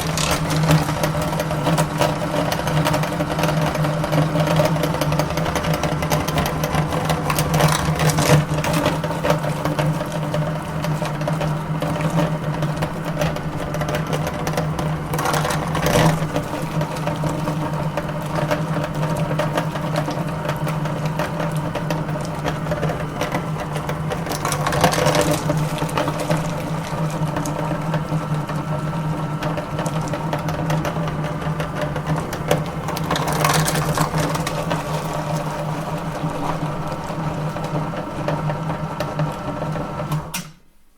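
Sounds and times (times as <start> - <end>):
candy grinding roughly: 0.0 - 40.0
electric meat grinder humming: 0.0 - 40.4.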